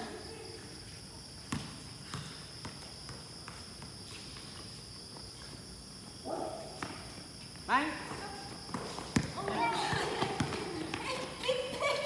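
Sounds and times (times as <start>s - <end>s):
night insects chirring: 0.0s - 12.0s
ball bouncing on concrete: 1.4s - 5.6s, 6.3s - 12.0s.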